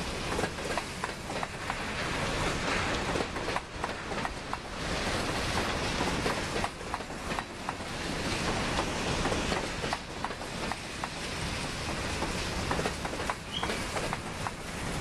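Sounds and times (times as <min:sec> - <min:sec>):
steel wheels rumbling on rails: 0:00.0 - 0:15.0
train cars clicking and clanking: 0:00.0 - 0:15.0.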